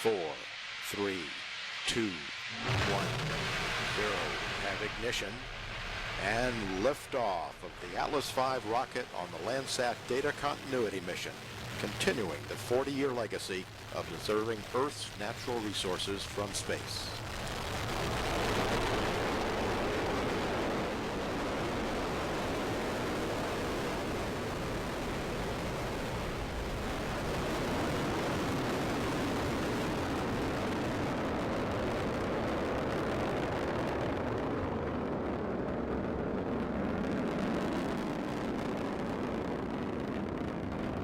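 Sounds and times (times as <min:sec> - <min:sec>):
rocket engine rumbling: 0:00.0 - 0:41.0.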